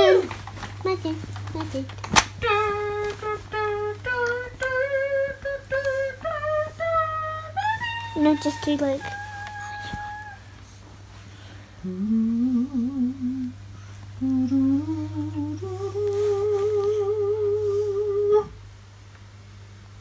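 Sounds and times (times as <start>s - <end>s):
high voice humming a tune: 0.0s - 10.8s, 11.8s - 18.6s.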